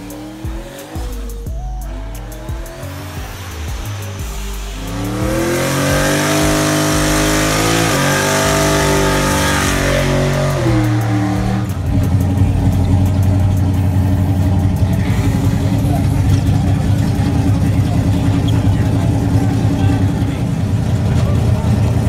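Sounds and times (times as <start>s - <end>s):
engine revving at full throttle: 0.0s - 22.0s
loud lumpy engine idle: 0.0s - 22.0s.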